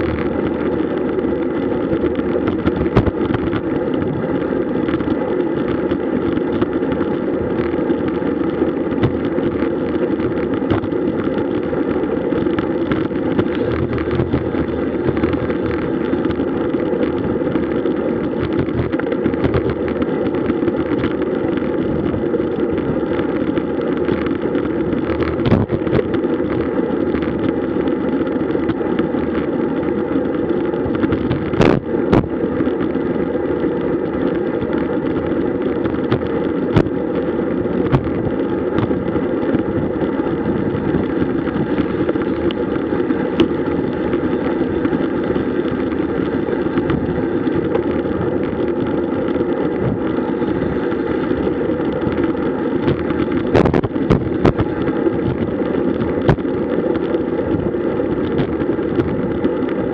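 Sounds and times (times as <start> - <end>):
road noise: 0.0 - 59.9
wind on microphone: 0.0 - 59.9.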